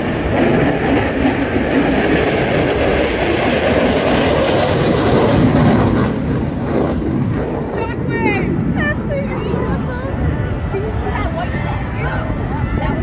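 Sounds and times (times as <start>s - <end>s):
loud jet engine roar: 0.0s - 13.0s.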